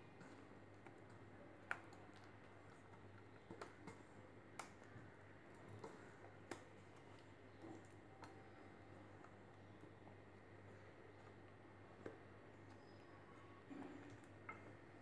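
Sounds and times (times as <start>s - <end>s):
faint sharp clicks and taps: 0.2s - 15.0s.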